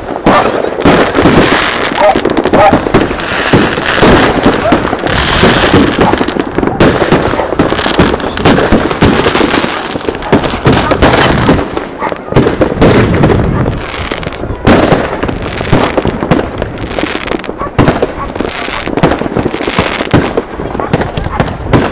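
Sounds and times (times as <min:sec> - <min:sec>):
fireworks cracking and banging: 0:00.0 - 0:21.9.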